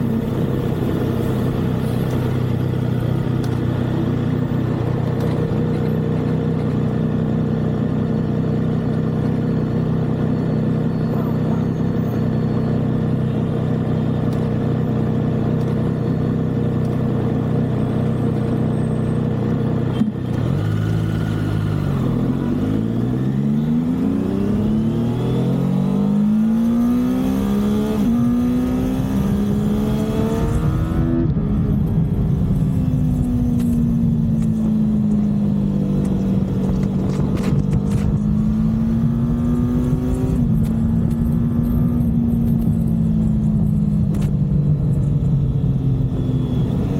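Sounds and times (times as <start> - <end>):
motorcycle engine shifting gears: 0.0 - 46.9.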